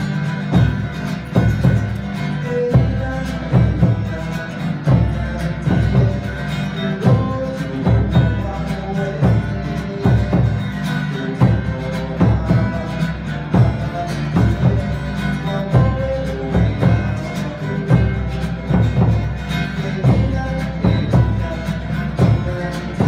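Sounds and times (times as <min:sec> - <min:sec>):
fast drumming: 0:00.0 - 0:23.0.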